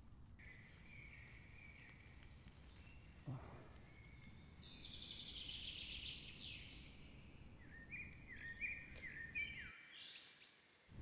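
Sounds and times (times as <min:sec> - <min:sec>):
faint outdoor ambience: 0:00.0 - 0:11.0
birds singing: 0:00.4 - 0:10.9.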